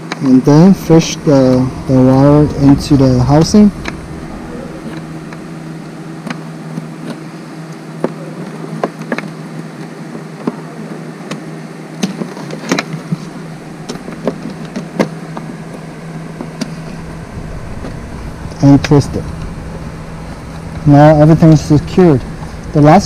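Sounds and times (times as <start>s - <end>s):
steady low hum: 0.0s - 8.4s, 12.9s - 23.0s.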